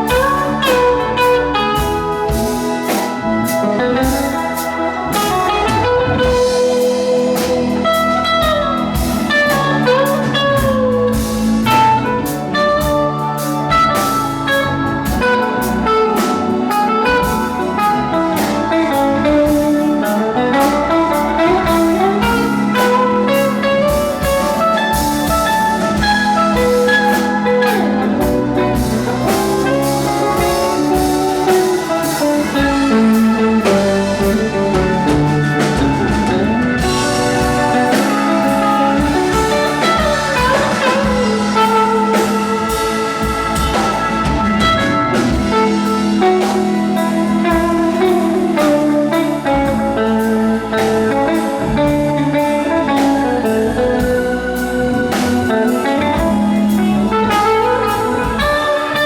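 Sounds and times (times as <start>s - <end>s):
bass guitar: 0.0s - 59.0s
drum kit: 0.0s - 59.0s
electric guitar lead with bends: 0.0s - 59.0s.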